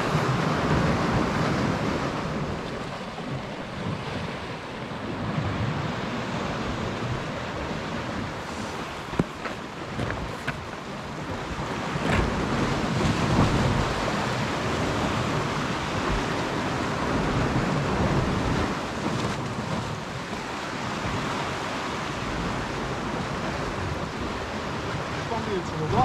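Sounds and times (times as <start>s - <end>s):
sea waves breaking on rocks: 0.0s - 26.0s
wind rumbling on microphone: 0.0s - 26.0s.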